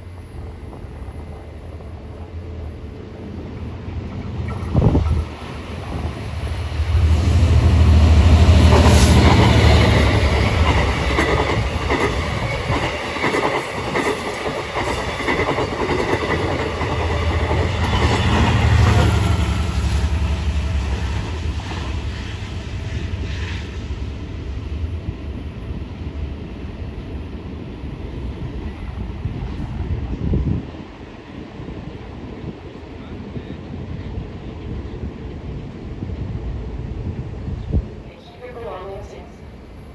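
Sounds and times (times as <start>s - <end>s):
train passing at speed: 0.0s - 39.9s.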